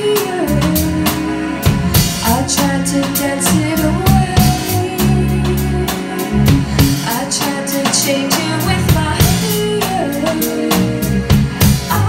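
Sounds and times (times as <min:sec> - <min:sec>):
female lead vocal: 0:00.0 - 0:01.3, 0:02.0 - 0:12.0
bass: 0:00.0 - 0:12.0
drum kit beat: 0:00.0 - 0:12.0
keyboard: 0:00.0 - 0:12.0.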